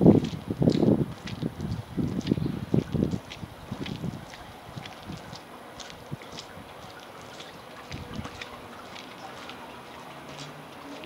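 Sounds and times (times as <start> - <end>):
footsteps on wet pavement: 0.0 - 11.0
wind rumble on microphone: 0.0 - 11.0.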